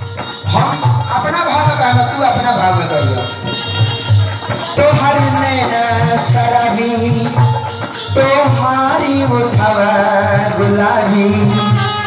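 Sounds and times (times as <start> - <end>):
man singing: 0.0 - 3.7, 4.3 - 12.0
drum beat: 0.0 - 12.0
rattling percussion: 0.0 - 12.0.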